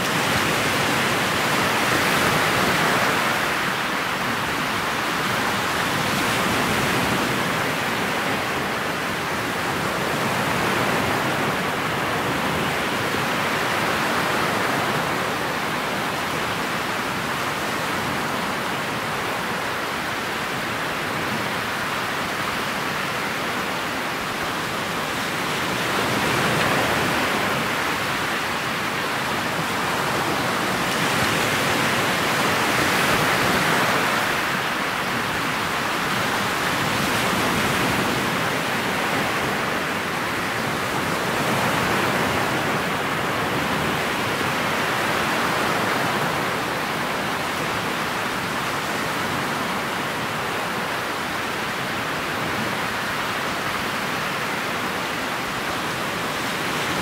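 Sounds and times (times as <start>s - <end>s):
motorboat through choppy water: 0.0s - 57.0s.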